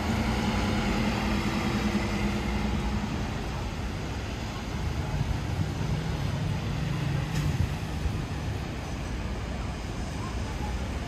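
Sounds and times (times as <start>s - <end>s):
rain: 0.0s - 11.0s
wet traffic noise: 0.0s - 11.0s.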